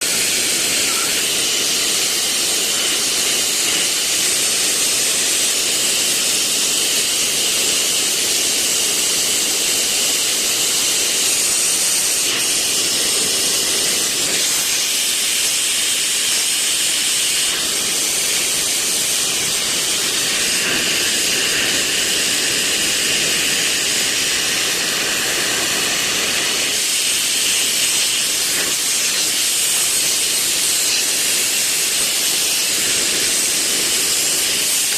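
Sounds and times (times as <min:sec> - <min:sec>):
gas torch flame hissing: 0:00.0 - 0:34.9.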